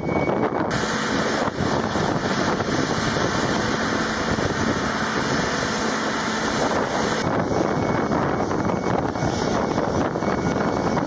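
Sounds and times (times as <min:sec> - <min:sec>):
engine and machinery rushing: 0:00.0 - 0:11.0.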